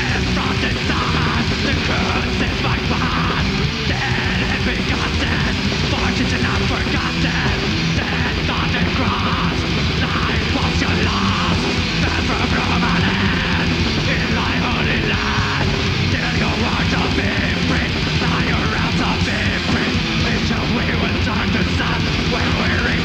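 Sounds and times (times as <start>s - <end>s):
distorted electric guitars: 0.0s - 23.0s
drums: 0.0s - 23.0s
harsh shouted vocals: 0.0s - 23.0s.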